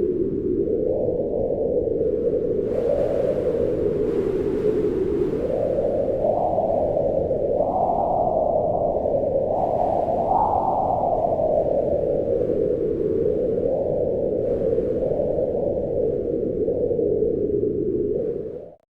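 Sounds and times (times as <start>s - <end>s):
wind howling: 0.0s - 18.8s.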